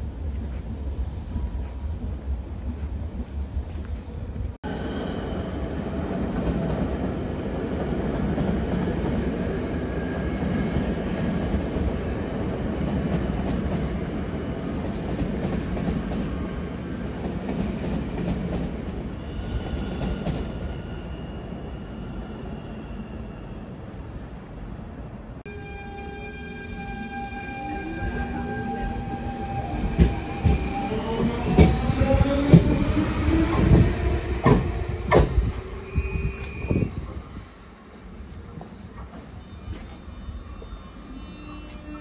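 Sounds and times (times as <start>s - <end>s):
train rumbling on tracks: 0.0s - 42.0s.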